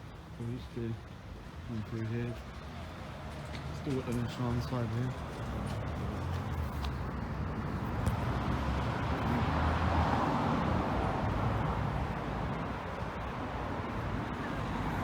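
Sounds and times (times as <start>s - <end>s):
passing vehicle rumble: 2.3s - 15.0s.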